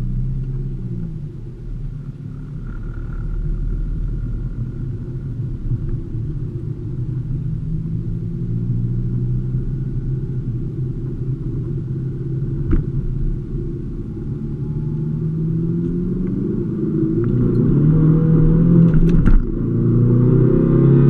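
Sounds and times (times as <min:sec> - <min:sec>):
car engine low drone: 0:00.0 - 0:21.0.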